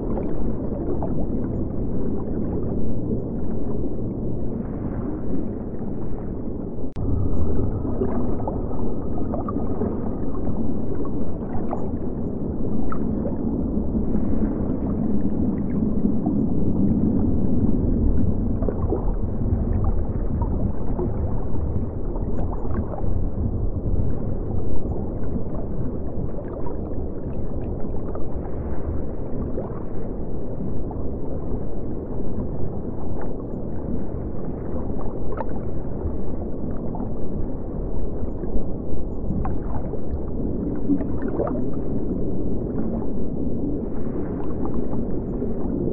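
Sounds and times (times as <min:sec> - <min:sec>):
muffled rush of moving water: 0:00.0 - 0:45.9.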